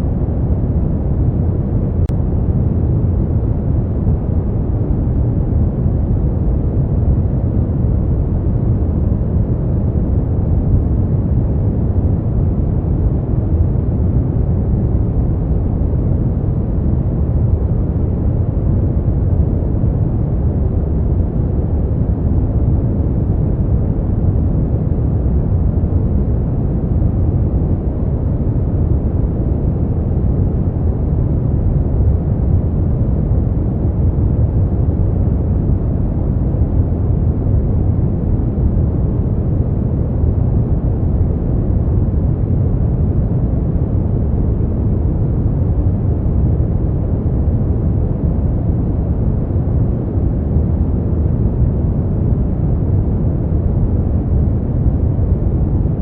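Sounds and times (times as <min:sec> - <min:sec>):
brown noise: 0:00.0 - 0:56.0.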